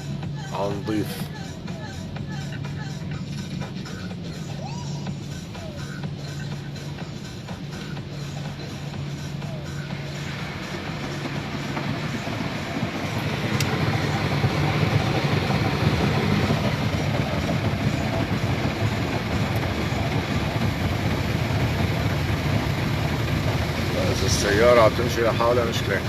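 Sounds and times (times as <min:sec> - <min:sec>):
car wash machinery rushing: 0:00.0 - 0:26.0.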